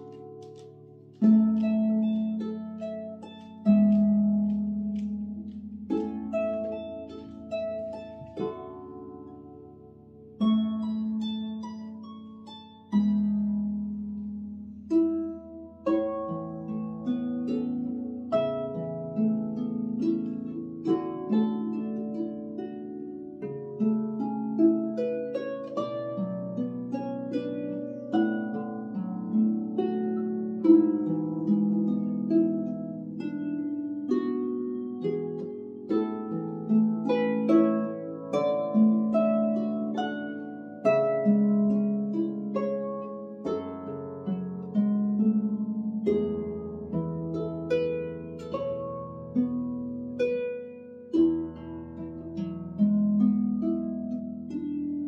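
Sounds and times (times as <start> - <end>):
harp playing a tune: 0.0 - 55.0.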